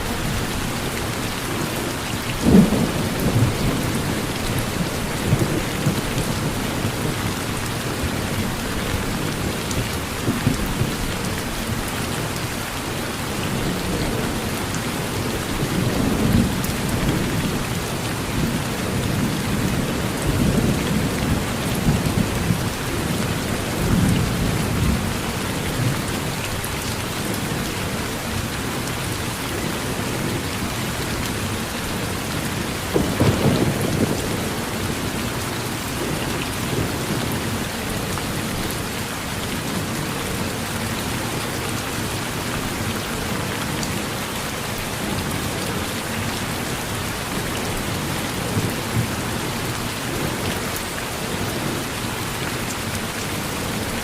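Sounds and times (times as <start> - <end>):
rain falling on a porch: 0.0 - 54.0.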